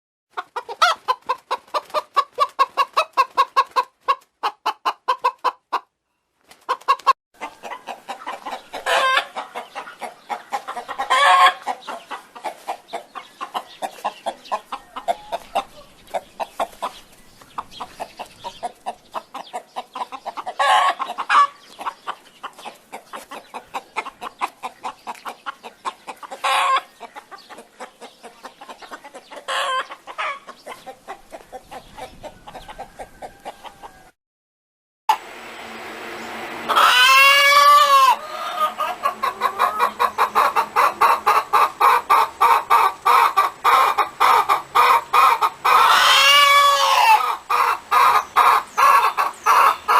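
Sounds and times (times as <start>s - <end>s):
chickens clucking: 0.3s - 34.1s, 36.2s - 49.9s
chicken drawn-out calls: 0.3s - 34.2s, 35.1s - 49.9s.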